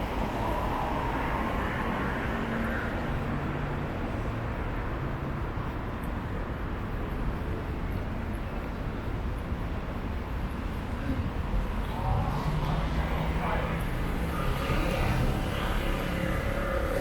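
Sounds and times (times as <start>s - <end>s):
traffic passing on city road: 0.0s - 17.0s.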